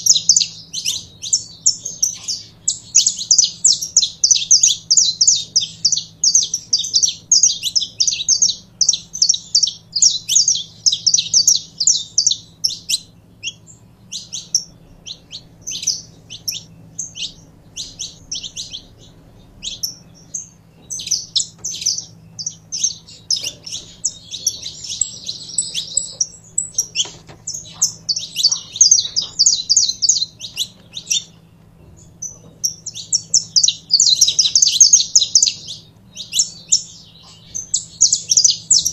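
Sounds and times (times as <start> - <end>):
finch singing high chirps: 0.0 - 38.9.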